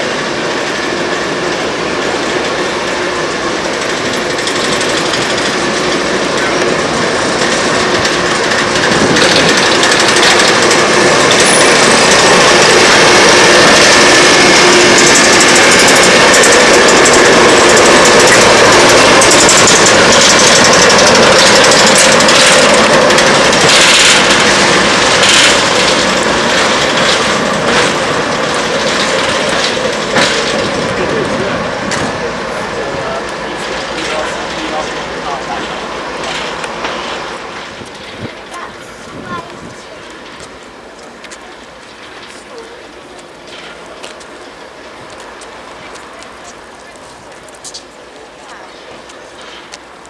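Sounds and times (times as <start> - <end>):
train clattering: 0.0 - 50.0.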